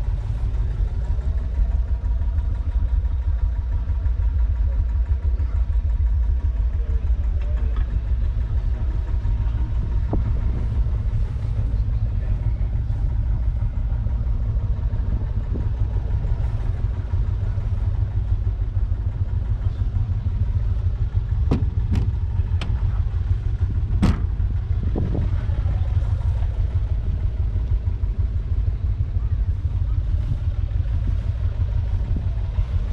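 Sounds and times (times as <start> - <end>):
tractor diesel engine idling: 0.0 - 32.9.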